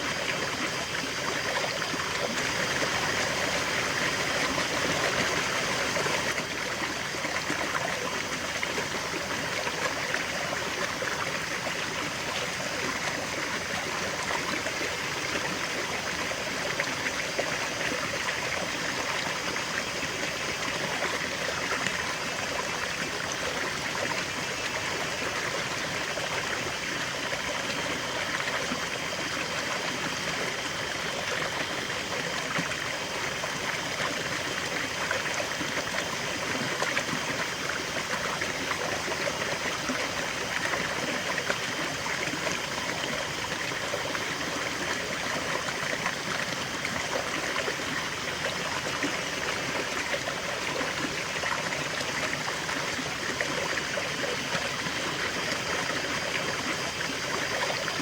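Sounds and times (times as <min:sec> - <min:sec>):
river water rushing over stones: 0:00.0 - 0:58.0.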